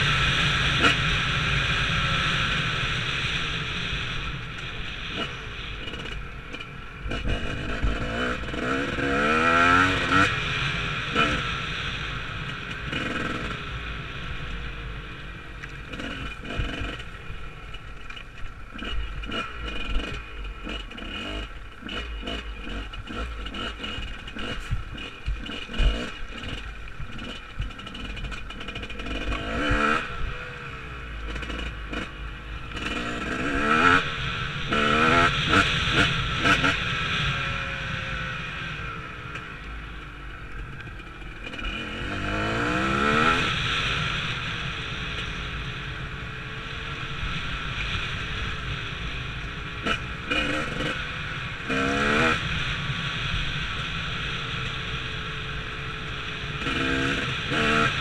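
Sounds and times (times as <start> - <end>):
dirt bike engine revving: 0.0 - 45.4, 46.6 - 58.0.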